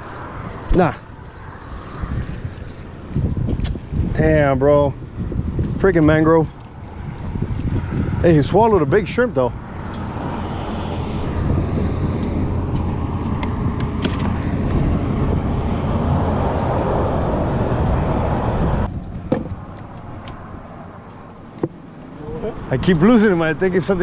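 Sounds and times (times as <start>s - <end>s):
traffic rumble on bridge: 0.0s - 24.0s.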